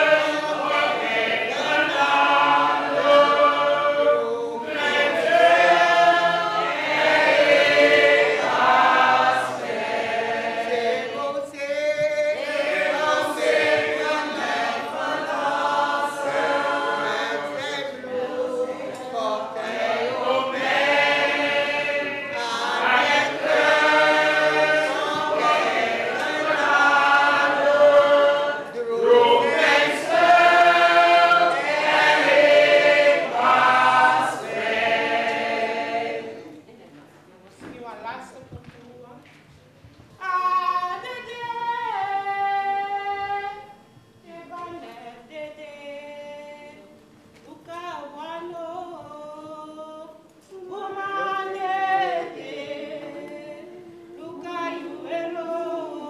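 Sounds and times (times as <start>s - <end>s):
women singing in chorus: 0.0s - 36.7s, 40.2s - 56.0s.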